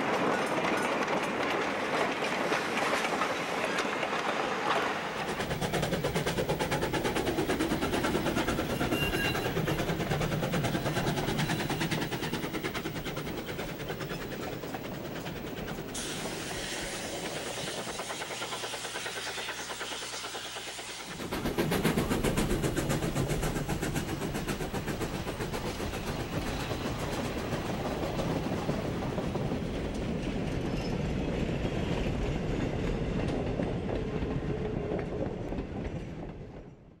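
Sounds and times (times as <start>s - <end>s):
wheels clicking over rail joints: 0.0s - 31.0s
model train rumbling: 0.0s - 36.8s.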